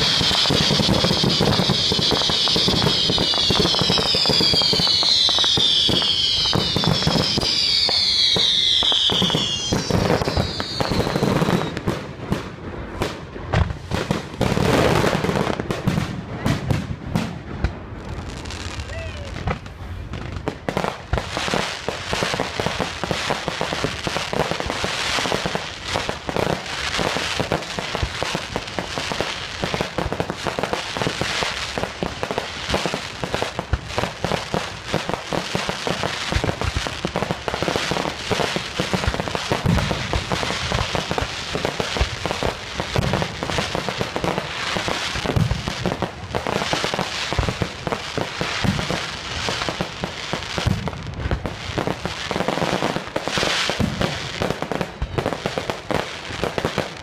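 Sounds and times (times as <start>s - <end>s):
heavy firework bangs: 0.0s - 18.8s, 19.4s - 57.0s
fireworks crackling and popping: 0.0s - 57.0s.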